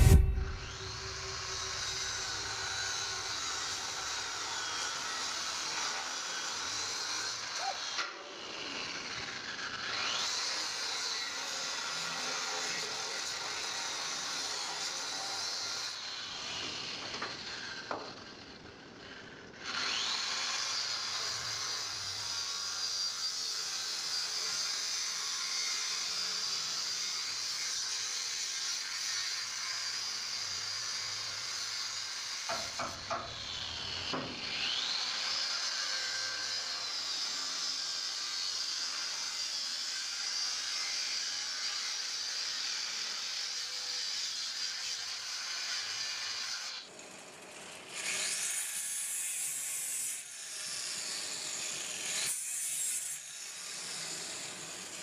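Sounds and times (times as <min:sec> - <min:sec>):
angle grinder cutting steel: 0:00.0 - 0:55.0.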